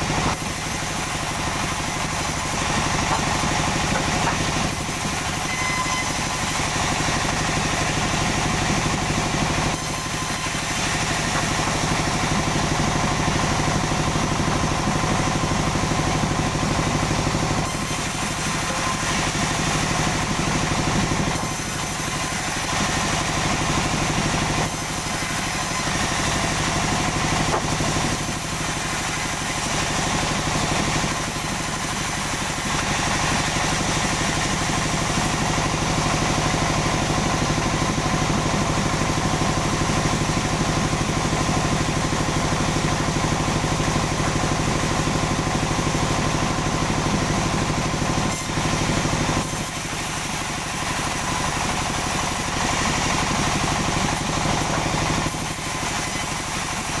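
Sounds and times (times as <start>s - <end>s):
saw running: 0.0s - 57.0s.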